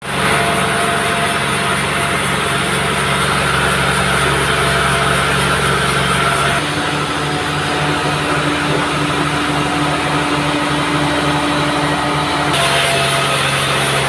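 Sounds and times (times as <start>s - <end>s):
sawmill machinery humming: 0.0s - 14.0s.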